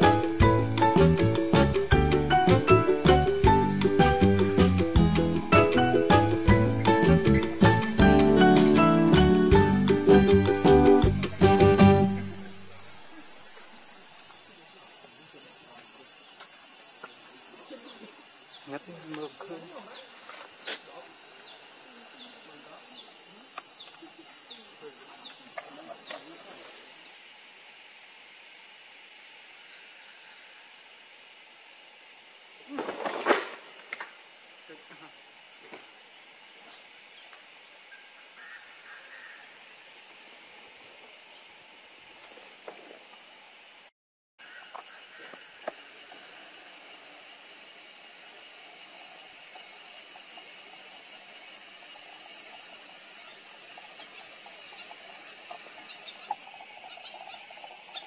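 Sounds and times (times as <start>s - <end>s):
insect chorus buzzing: 0.0s - 58.0s.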